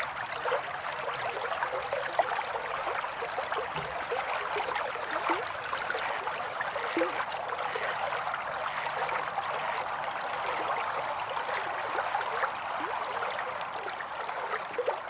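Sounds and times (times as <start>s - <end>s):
water flowing and gurgling: 0.0s - 15.0s.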